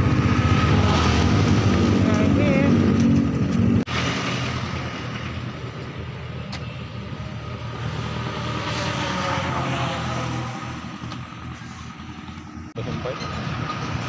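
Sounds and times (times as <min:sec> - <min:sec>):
vehicle passing: 0:00.0 - 0:05.7, 0:06.8 - 0:14.0
traffic engine hum: 0:00.0 - 0:14.0.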